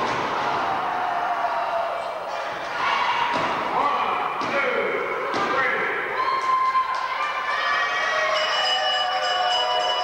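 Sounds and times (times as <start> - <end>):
crowd cheering and shouting: 0.0 - 4.0, 5.3 - 10.0.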